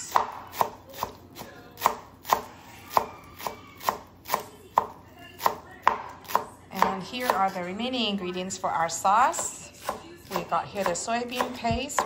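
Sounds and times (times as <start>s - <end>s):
knife chopping on cutting board: 0.0s - 7.6s, 9.3s - 12.0s.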